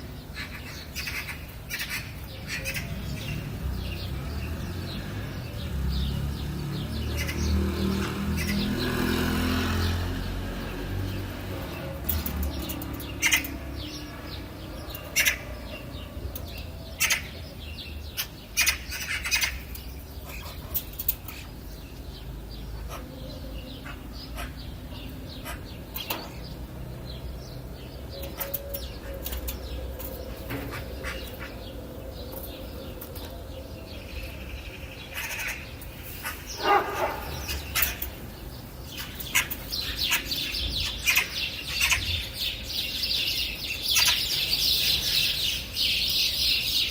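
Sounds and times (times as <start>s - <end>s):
wild birds chirping: 0.0s - 46.9s.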